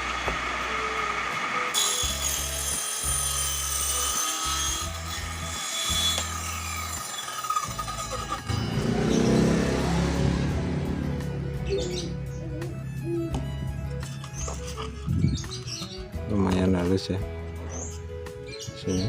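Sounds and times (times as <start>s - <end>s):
table saw cutting wood: 0.0s - 16.1s
background music: 0.0s - 19.0s.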